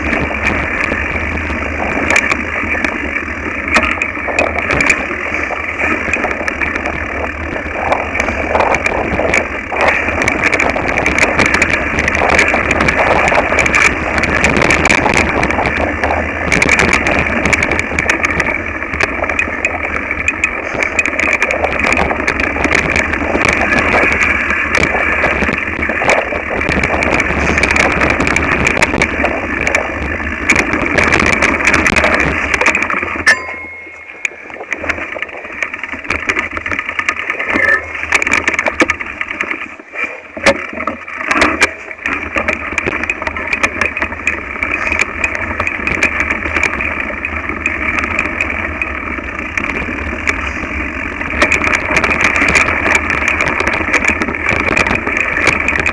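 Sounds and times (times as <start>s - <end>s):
bike rattling over rough trail: 0.0s - 55.9s.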